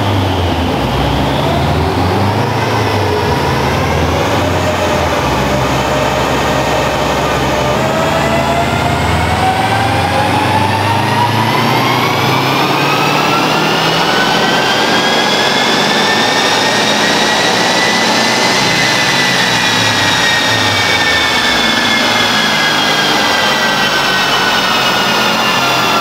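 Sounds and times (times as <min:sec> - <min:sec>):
car engine revving at full throttle: 0:00.0 - 0:26.0
dyno rollers whining: 0:00.0 - 0:26.0.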